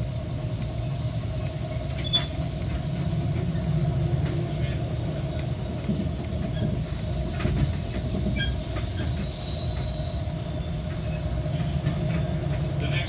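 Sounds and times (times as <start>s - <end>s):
train rumbling on track: 0.0s - 13.0s
wheels clicking over rails: 0.4s - 13.0s.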